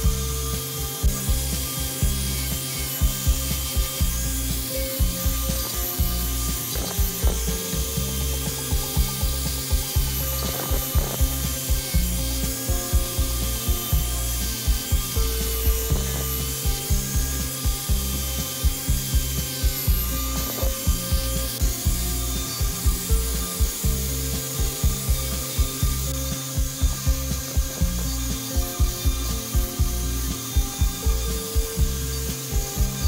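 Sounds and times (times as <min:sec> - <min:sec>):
angle grinder sanding wood: 0:00.0 - 0:33.0
background music with steady beat: 0:00.0 - 0:33.0.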